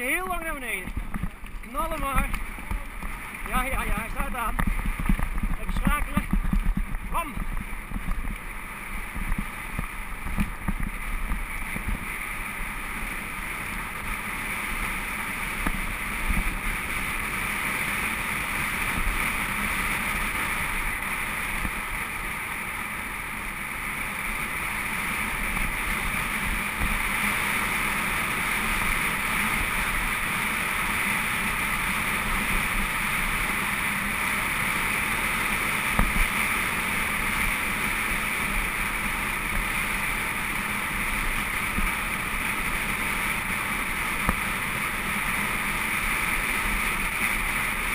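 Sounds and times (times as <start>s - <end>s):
tyres rumbling on gravel: 0.0s - 47.9s.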